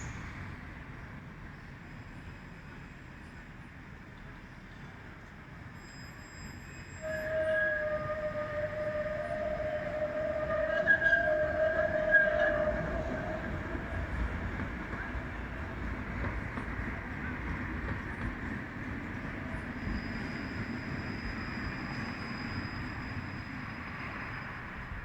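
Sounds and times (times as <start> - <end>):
tram wheels squealing: 0.0 - 4.0, 4.7 - 25.0
tram rolling rumble: 0.0 - 25.0.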